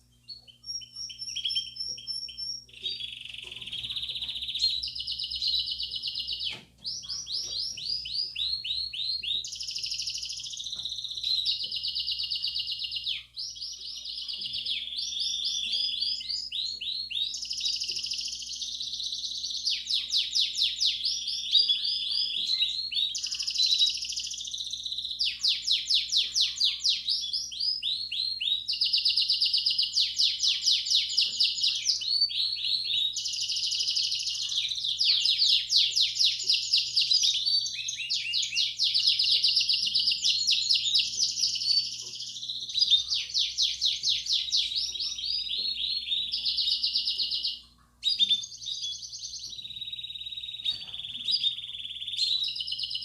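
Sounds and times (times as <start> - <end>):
canary singing fast trills: 0.0 - 53.0.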